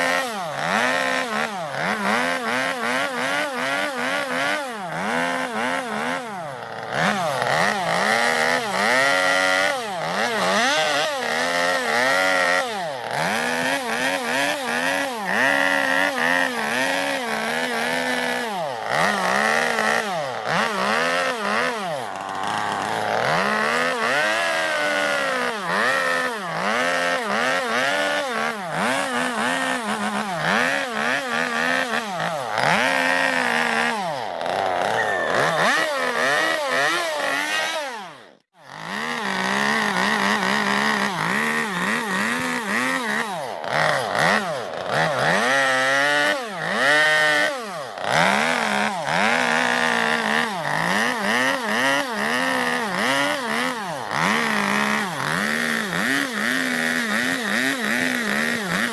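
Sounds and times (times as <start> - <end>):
chainsaw revving cutting wood: 0.0 - 58.9.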